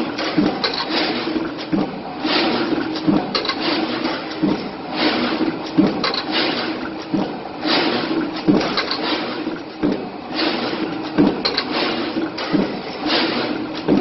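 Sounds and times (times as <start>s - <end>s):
box-making machine knocking: 0.0s - 14.0s
steady machine hum: 0.0s - 14.0s.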